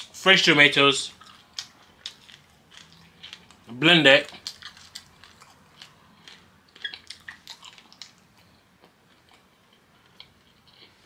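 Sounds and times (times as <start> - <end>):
person chewing: 1.1 - 11.0.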